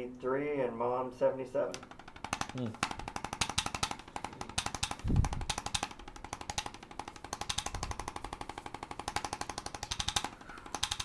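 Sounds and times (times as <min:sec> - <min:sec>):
rapid electric tapping clicks: 0:01.7 - 0:11.0.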